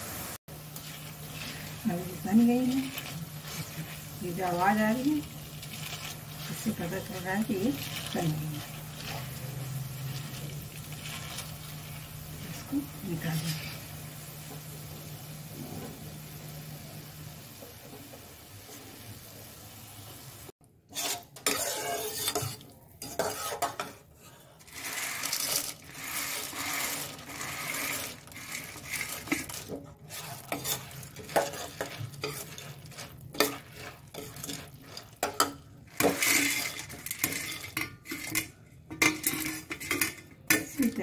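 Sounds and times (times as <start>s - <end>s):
spoon scraping steel pan: 0.8s - 13.9s, 20.9s - 41.0s.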